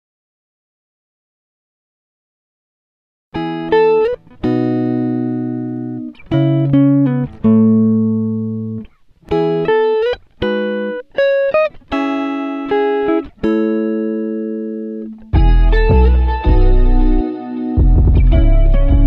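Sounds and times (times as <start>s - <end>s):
plucked guitar playing chords: 3.4s - 19.0s.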